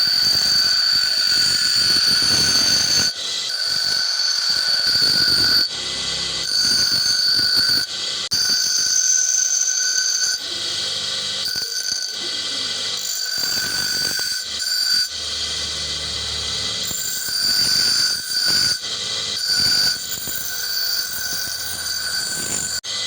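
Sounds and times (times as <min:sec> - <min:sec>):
power grinder whining on steel: 0:00.0 - 0:23.0.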